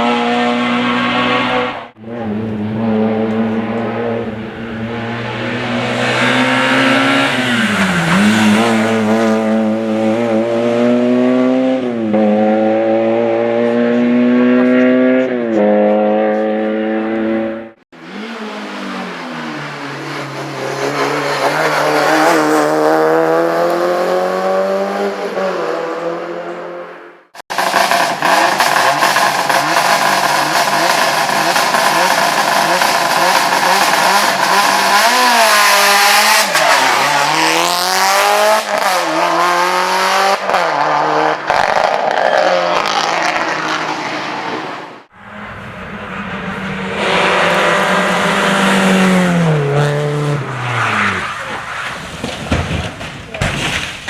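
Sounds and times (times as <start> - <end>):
rally car engine accelerating: 0.0 - 53.8.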